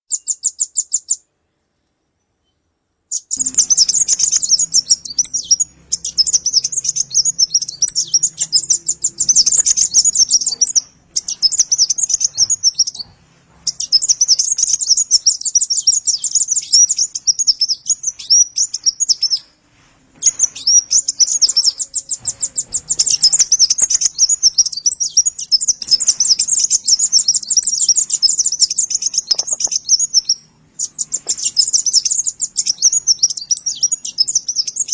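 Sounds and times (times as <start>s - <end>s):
bird chattering trills: 0.0s - 1.2s, 3.1s - 19.5s, 20.2s - 34.9s.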